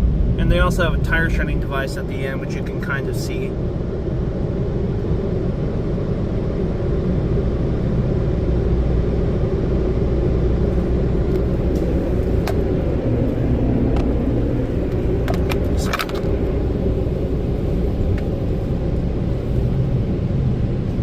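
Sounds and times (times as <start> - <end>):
car wash equipment rumble: 0.0 - 21.0.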